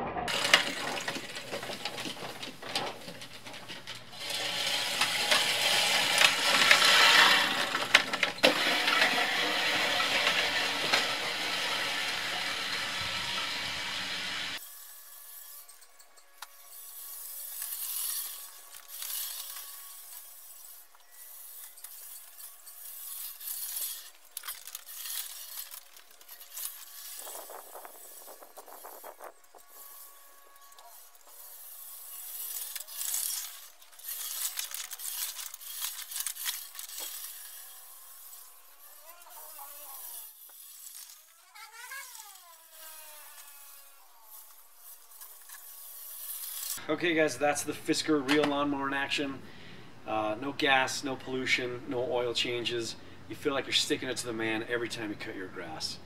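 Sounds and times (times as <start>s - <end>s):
push reel mower cutting grass: 0.3s - 46.8s.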